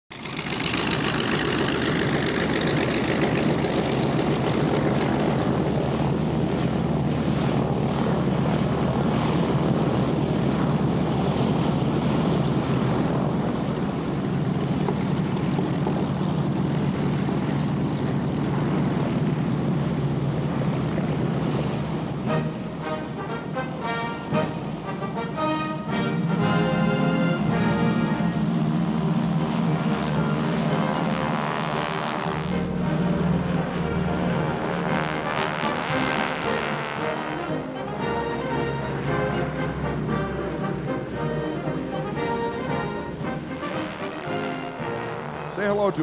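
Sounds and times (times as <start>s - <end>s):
radial aircraft engines running: 0.1s - 46.0s.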